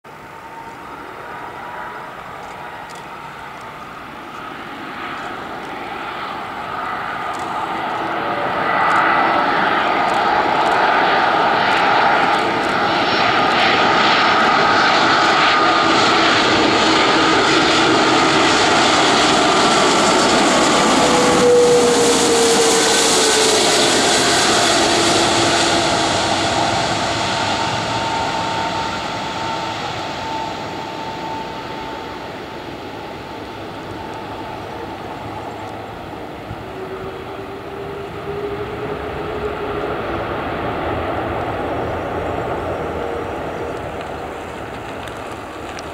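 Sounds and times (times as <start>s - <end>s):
jet engines rumbling and whining: 0.1s - 45.9s.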